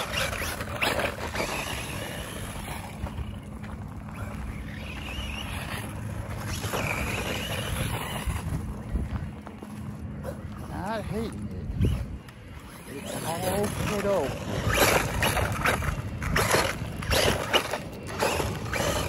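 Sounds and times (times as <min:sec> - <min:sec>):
electric motor whine: 0:00.0 - 0:09.8, 0:10.6 - 0:19.0.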